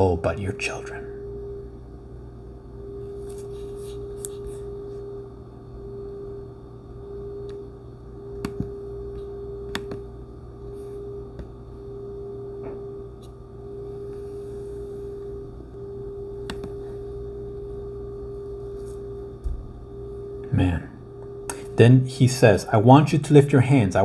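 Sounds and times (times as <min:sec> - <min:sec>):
low hum: 0:00.0 - 0:24.0
soft ambient drone: 0:00.0 - 0:24.0.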